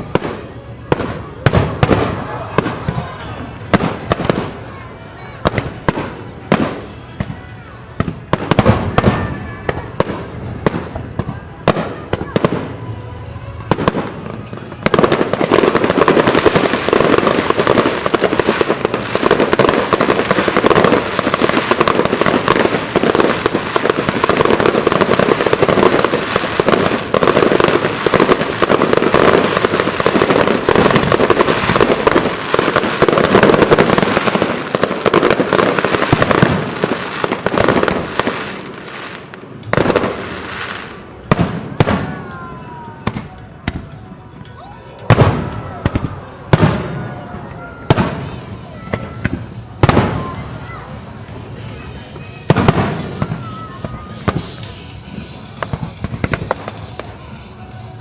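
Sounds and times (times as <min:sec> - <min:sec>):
aerial fireworks bangs and crackles: 0:00.0 - 0:58.0.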